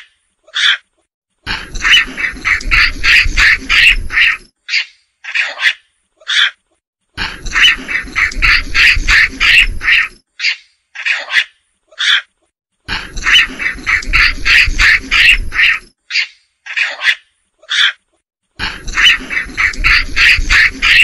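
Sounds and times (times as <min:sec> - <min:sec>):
macaque calls: 0:00.0 - 0:00.9, 0:01.5 - 0:06.6, 0:07.2 - 0:12.3, 0:12.9 - 0:18.0, 0:18.6 - 0:21.0.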